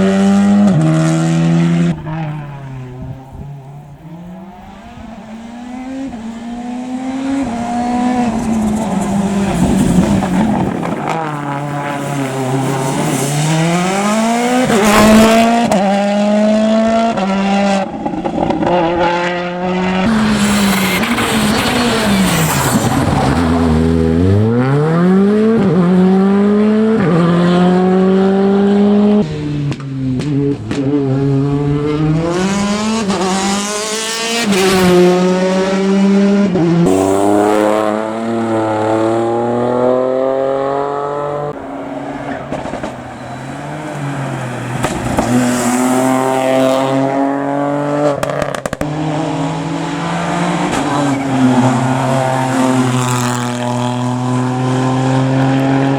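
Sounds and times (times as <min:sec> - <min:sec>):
rally car engines accelerating: 0:00.0 - 0:55.9.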